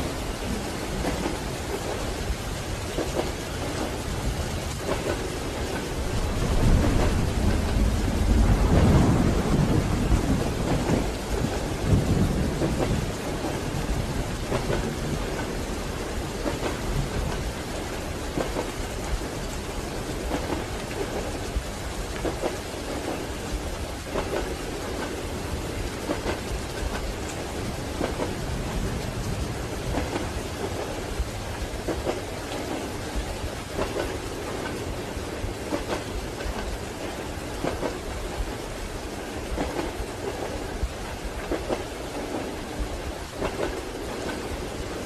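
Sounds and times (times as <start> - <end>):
rain on a window: 0.0 - 45.0.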